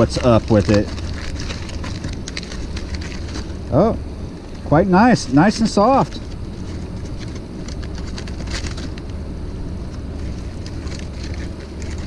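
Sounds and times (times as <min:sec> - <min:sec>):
paper towel and foil crinkling: 0:00.0 - 0:03.9, 0:04.6 - 0:09.2, 0:09.9 - 0:12.0.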